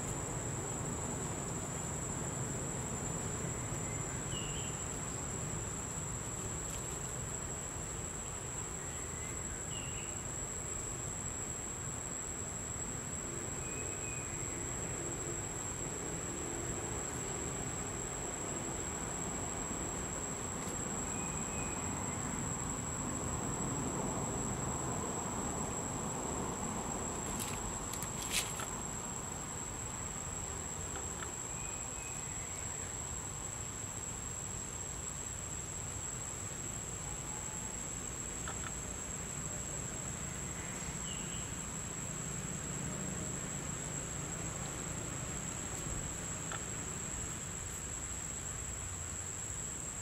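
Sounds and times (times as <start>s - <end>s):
faint outdoor hiss: 0.0s - 50.0s
insect trill: 0.0s - 50.0s.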